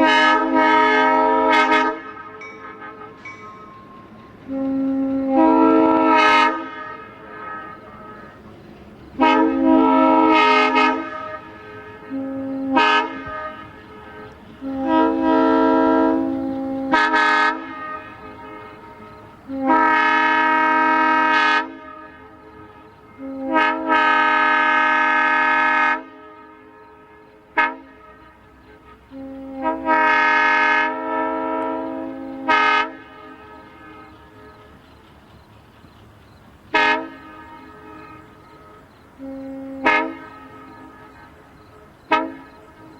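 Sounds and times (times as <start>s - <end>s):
locomotive air horn blasts: 0.0s - 35.1s, 36.7s - 42.9s.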